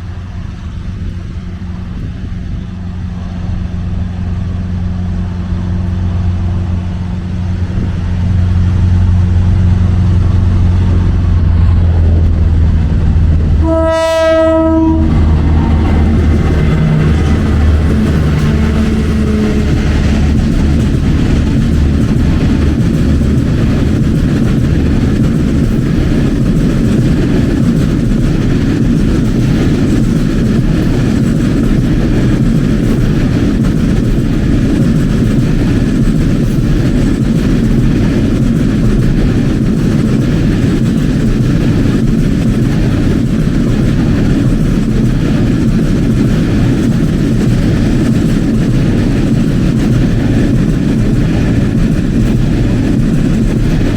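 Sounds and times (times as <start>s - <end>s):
train rumbling on track: 0.0s - 53.9s.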